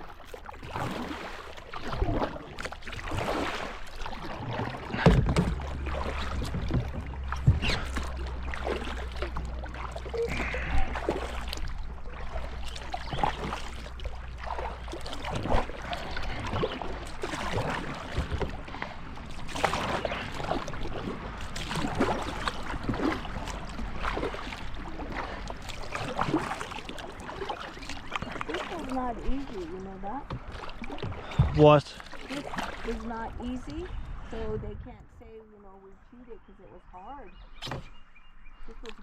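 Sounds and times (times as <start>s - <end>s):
kayak paddles splashing in water: 0.0s - 35.0s.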